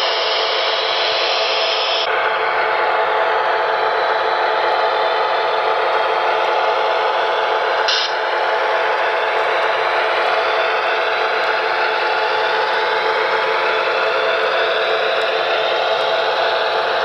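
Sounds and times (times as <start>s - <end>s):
model locomotive electric hum: 0.0s - 17.0s.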